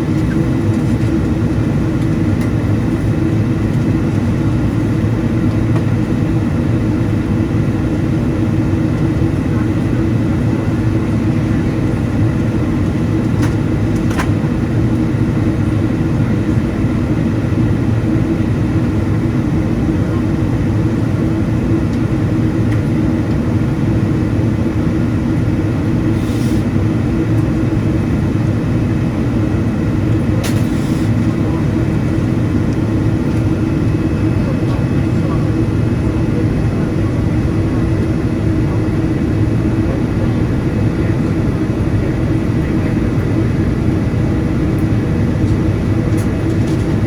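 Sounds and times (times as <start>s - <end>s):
airplane cabin rumble: 0.0s - 47.0s.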